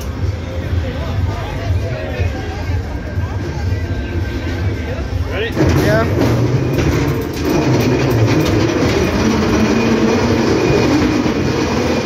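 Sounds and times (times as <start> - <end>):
ride car running along track: 0.0 - 12.0.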